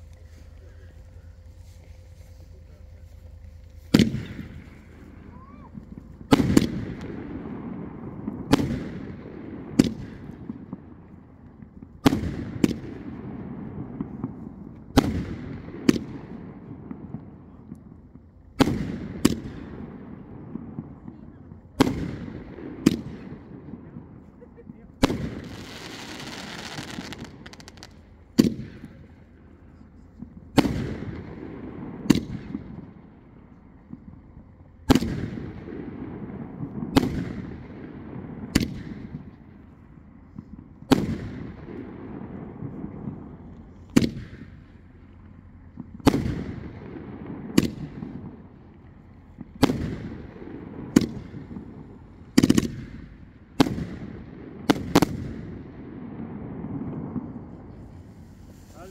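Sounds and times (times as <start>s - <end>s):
fireworks bangs: 0.0s - 58.9s.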